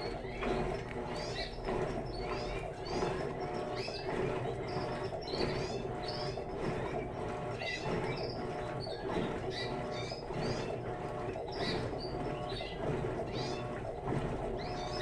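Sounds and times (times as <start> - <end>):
agitator squeaky whine: 0.0 - 15.0
washing machine motor hum: 0.0 - 15.0
water swishing: 0.0 - 15.0.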